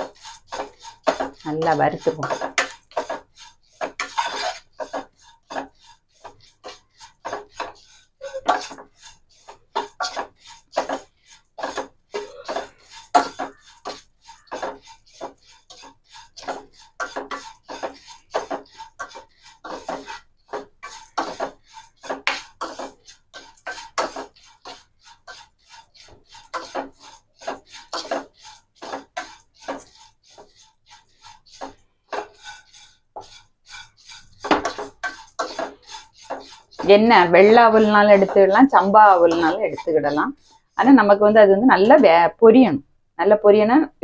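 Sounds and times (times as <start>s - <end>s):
spatula scraping rice flakes in pan: 0.0s - 42.2s.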